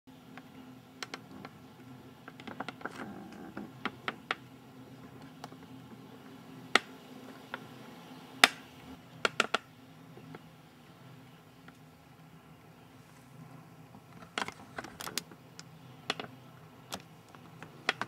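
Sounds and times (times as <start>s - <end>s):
faint steady hum: 0.1s - 18.0s.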